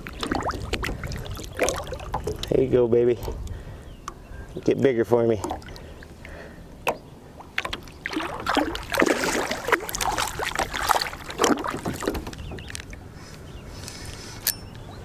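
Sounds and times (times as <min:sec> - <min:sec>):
water splashing beside a boat: 0:00.0 - 0:03.7, 0:05.0 - 0:14.4.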